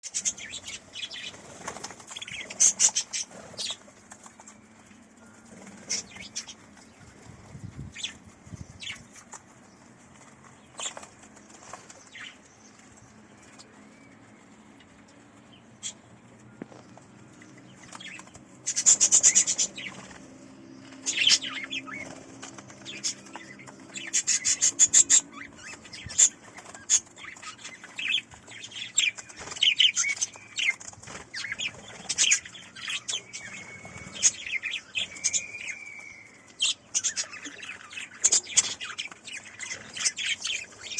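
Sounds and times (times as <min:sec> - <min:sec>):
wings fluttering: 0:00.0 - 0:40.9.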